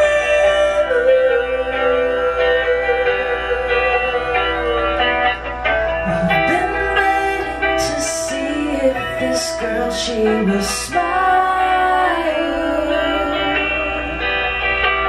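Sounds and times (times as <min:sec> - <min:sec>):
woman singing: 0:00.0 - 0:05.0, 0:06.0 - 0:14.6
guitar accompaniment: 0:00.0 - 0:15.0.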